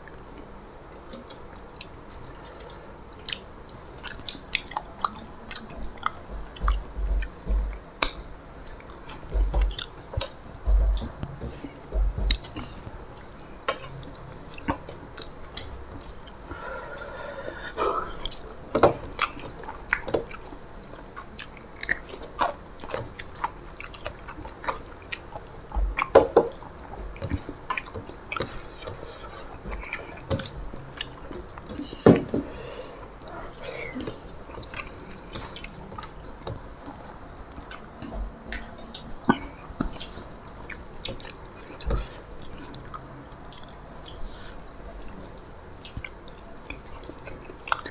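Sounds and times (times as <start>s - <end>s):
chewing: 0.0s - 47.9s.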